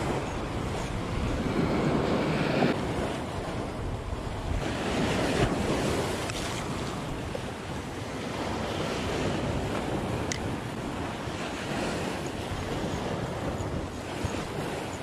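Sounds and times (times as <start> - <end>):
waves breaking on rocky shore: 0.0 - 15.0
wind buffeting microphone: 0.0 - 15.0.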